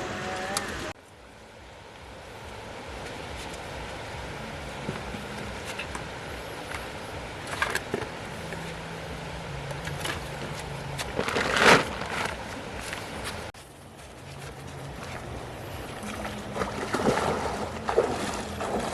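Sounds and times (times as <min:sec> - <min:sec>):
loud noisy rush: 0:00.0 - 0:18.9.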